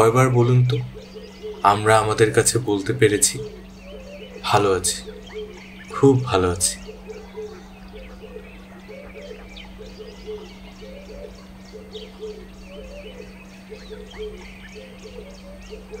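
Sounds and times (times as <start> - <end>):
bird chirps: 0.0 - 16.0
faint steady hum: 0.0 - 16.0
short low hooting calls: 0.0 - 16.0.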